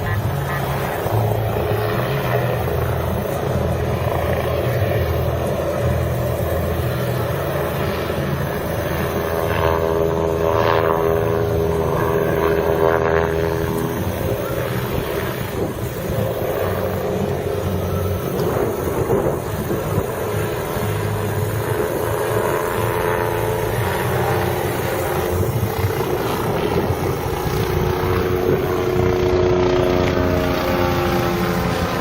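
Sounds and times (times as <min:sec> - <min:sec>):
helicopter in flight: 0:00.0 - 0:32.0.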